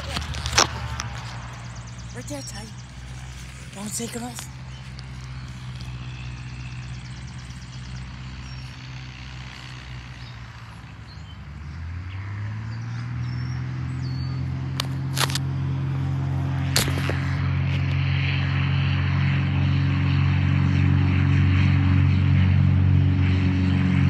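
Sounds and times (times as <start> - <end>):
propeller airplane engine drone: 0.0 - 24.0.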